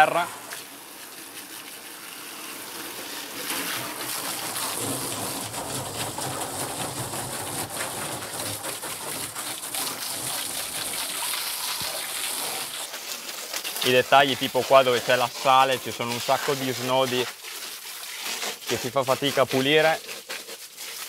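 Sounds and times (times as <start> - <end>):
hose water splashing on metal: 0.0 - 21.0.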